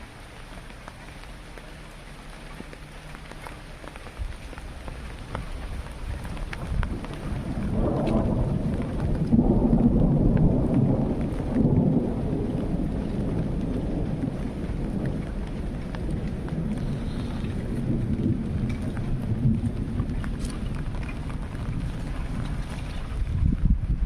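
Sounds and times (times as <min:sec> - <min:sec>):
raindrops ticking: 0:00.0 - 0:24.0
steady rain: 0:00.0 - 0:24.0
thunder rumbling: 0:04.0 - 0:24.0.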